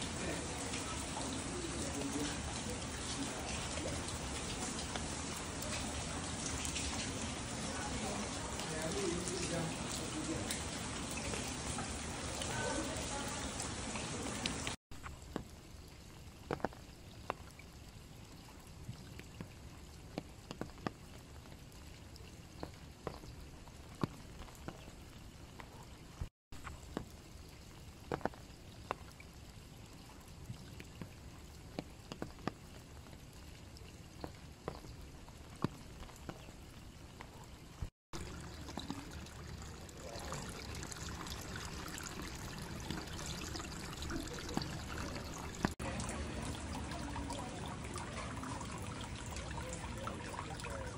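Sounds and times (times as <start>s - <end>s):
drops dripping onto surfaces: 0.0s - 50.9s
light rain: 0.0s - 50.9s
running water: 0.0s - 50.9s.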